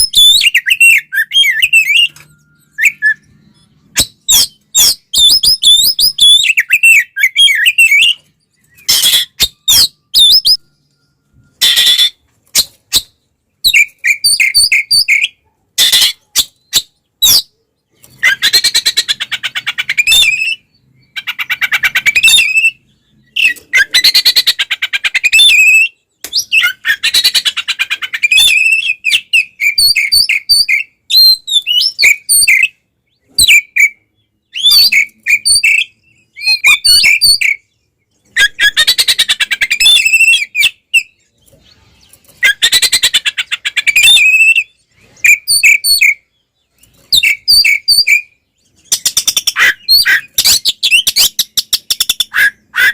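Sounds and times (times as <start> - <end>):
bird singing rattling and whistling: 0.0 - 52.9.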